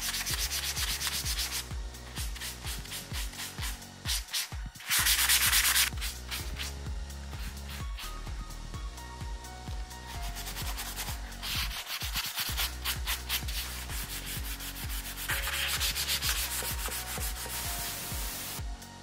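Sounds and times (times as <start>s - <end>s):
sanding sponge scratching wood: 0.0s - 6.8s, 10.1s - 18.6s.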